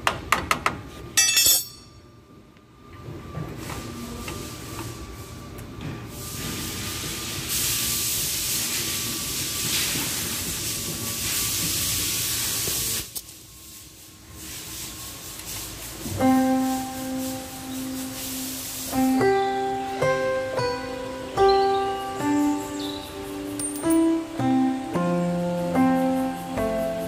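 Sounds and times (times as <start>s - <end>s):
steady hissing noise: 0.9s - 27.0s.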